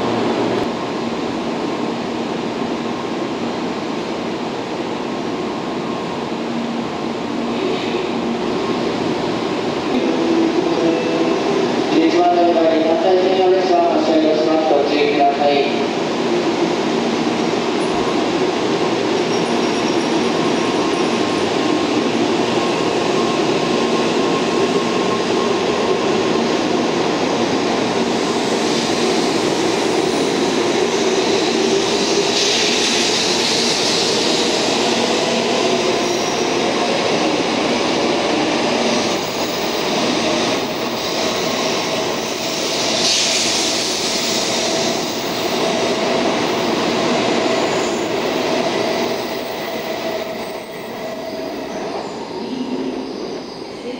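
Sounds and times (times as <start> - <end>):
train rumbling past: 0.0 - 53.9.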